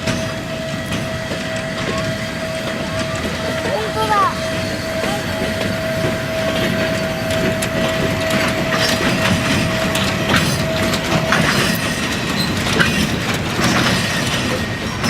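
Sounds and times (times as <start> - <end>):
locomotive motor whine: 0.0 - 15.0
wheels clicking over rails: 0.0 - 15.0.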